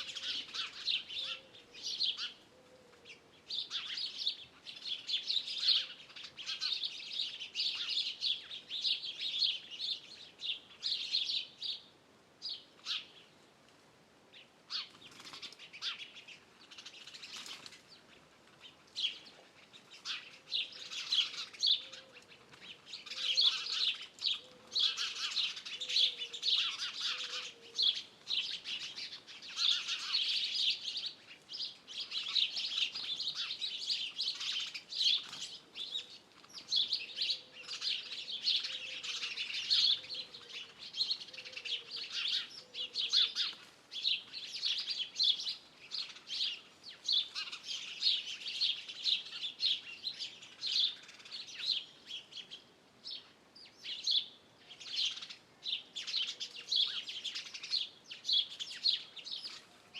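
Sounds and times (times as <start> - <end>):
many songbirds singing: 0.0 - 13.4, 14.3 - 59.9.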